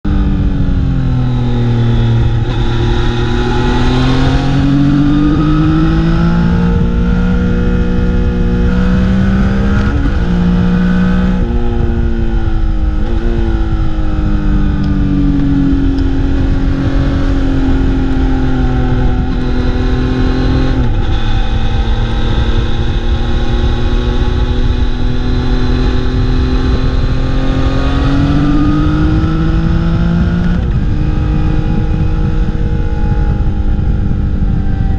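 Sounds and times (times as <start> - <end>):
low rush of wind: 0.0 - 34.9
motorcycle engine revving: 0.1 - 34.9.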